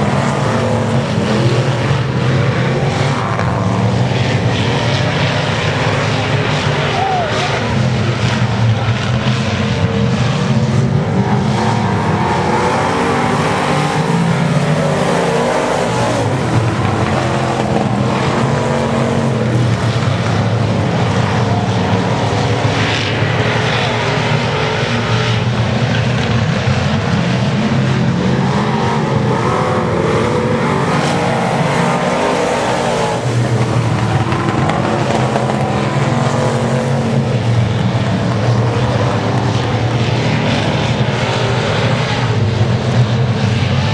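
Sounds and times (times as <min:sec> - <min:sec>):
race car engines: 0:00.0 - 0:43.9.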